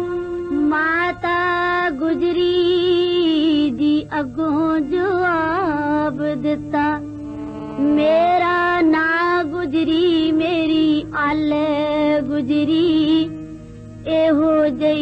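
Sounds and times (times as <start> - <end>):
woman singing folk song: 0.0 - 7.2, 7.8 - 15.0.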